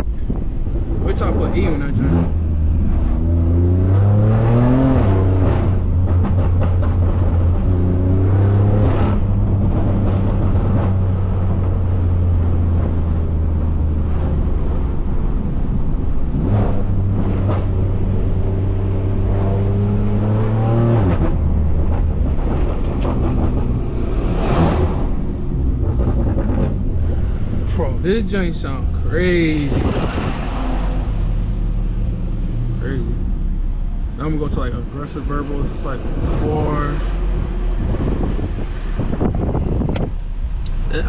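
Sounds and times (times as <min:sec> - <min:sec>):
car engine revving: 0:00.0 - 0:41.0
exhaust crackles and burbles: 0:00.0 - 0:41.0.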